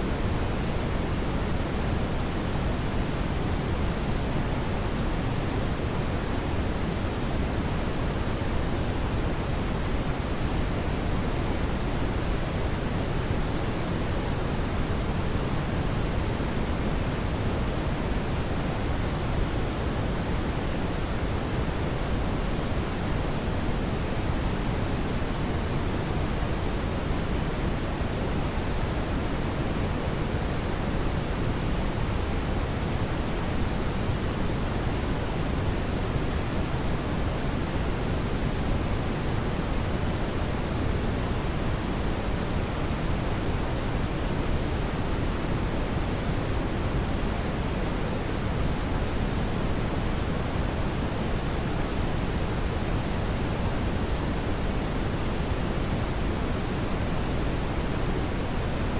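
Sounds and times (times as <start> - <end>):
brown noise hiss: 0.0 - 58.9.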